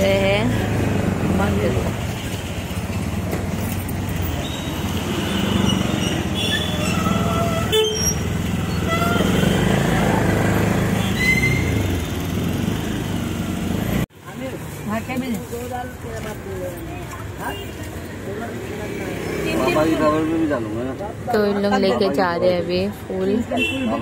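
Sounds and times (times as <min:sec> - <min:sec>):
road noise: 0:00.0 - 0:24.0
vehicle engine: 0:00.0 - 0:24.0.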